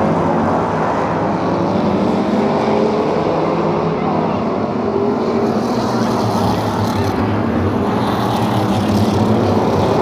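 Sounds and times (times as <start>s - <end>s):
stock car engines droning: 0.0s - 10.0s.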